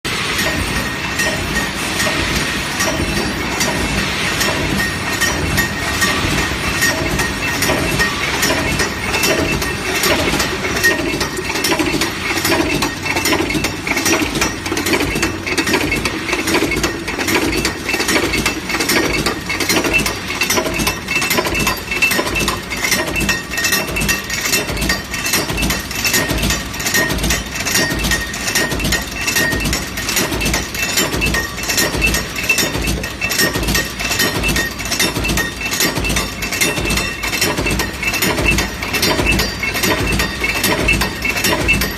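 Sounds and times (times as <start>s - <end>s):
machine metallic clinks and clatter: 0.1s - 41.9s.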